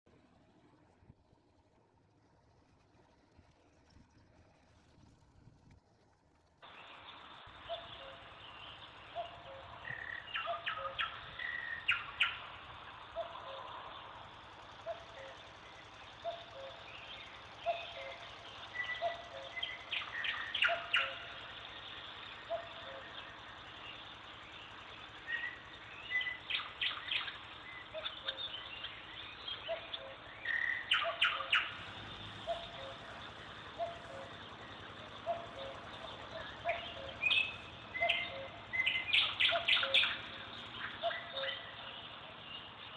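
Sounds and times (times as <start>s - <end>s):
birds chirping and calling: 6.7s - 42.9s.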